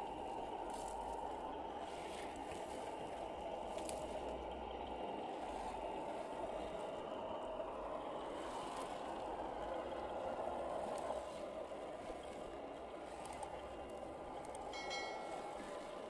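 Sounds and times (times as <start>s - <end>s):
rc car motors churning through mud: 0.0s - 16.0s.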